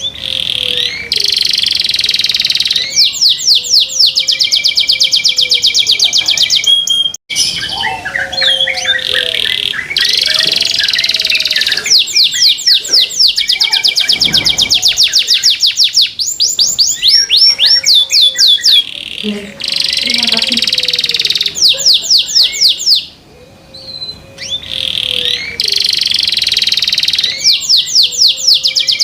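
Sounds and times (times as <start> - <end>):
canary singing: 0.0 - 29.0.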